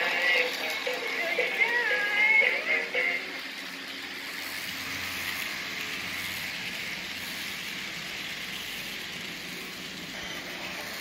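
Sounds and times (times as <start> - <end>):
faint motor hum: 0.0 - 11.0
model train wheels whirring: 0.0 - 11.0.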